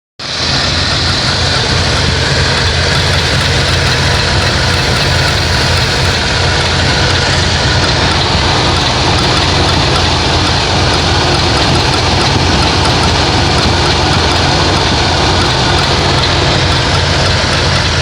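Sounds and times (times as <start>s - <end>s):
car engine idling: 0.2s - 18.0s
light regular engine clicking: 0.2s - 18.0s.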